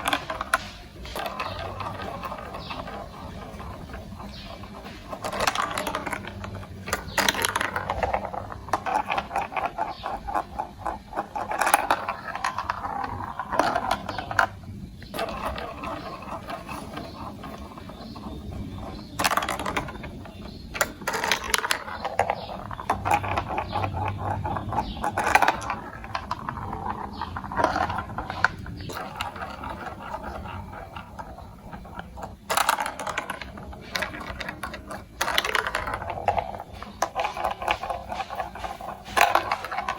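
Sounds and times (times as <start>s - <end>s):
marbles clacking on track: 0.0s - 39.9s
marbles rattling through track: 0.0s - 39.9s.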